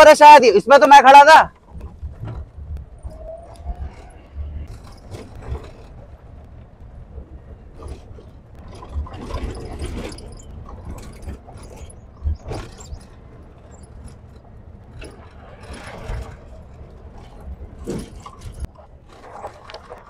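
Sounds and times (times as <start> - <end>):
jeep engine and road rumble: 0.0 - 20.0
body knocks and rattles: 1.5 - 3.2, 3.8 - 20.0.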